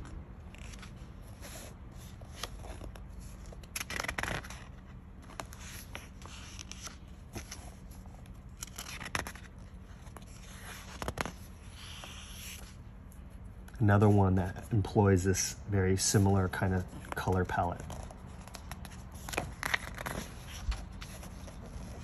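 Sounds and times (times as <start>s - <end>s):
book pages rustling: 0.0s - 14.9s, 16.0s - 22.0s.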